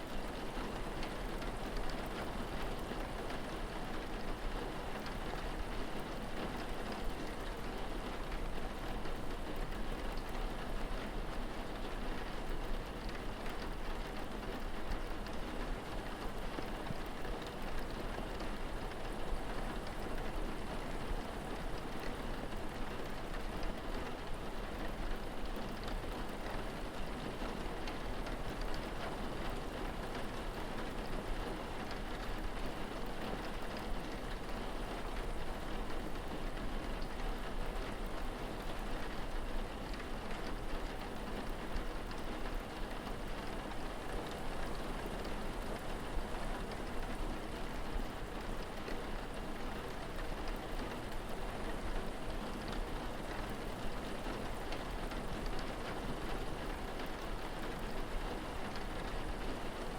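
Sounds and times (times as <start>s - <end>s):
rain drops pattering on surfaces: 0.0s - 59.9s.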